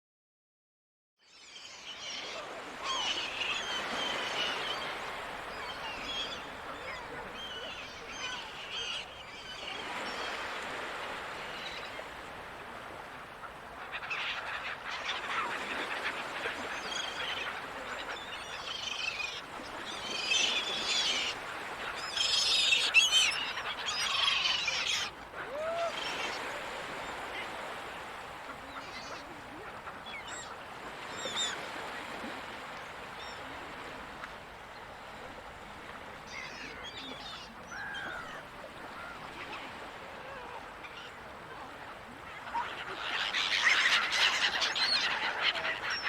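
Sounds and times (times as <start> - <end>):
sea noise: 1.4 - 46.0
seagulls calling: 1.8 - 33.9, 35.1 - 46.0.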